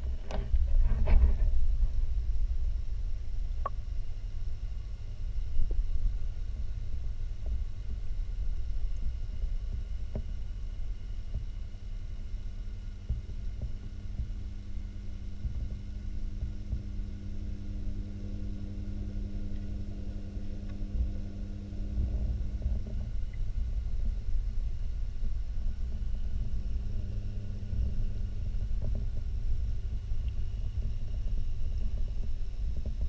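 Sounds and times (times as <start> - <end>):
steady low hum: 0.0 - 33.0
underwater rumble: 0.0 - 33.0.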